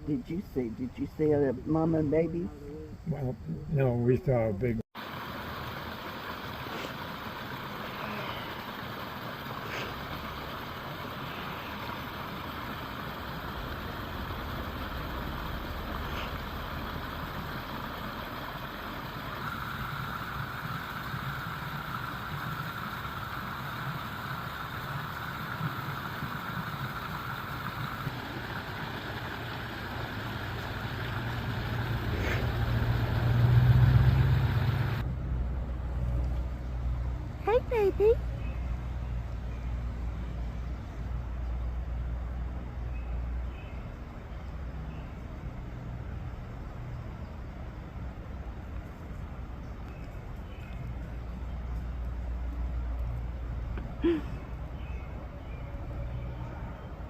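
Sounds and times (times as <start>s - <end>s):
vehicle engine and road noise: 0.0s - 57.0s.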